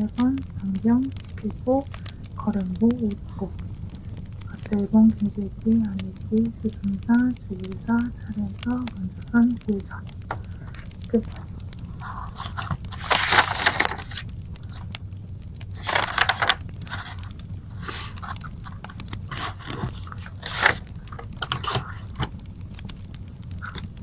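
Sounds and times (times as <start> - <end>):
low rumble: 0.0 - 24.0
wood fire crackling: 0.0 - 24.0.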